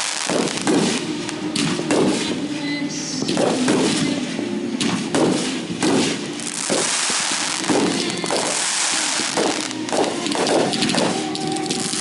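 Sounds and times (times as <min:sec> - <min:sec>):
firework booms: 0:00.0 - 0:02.6, 0:03.2 - 0:12.0
firework crackling hiss: 0:00.0 - 0:12.0.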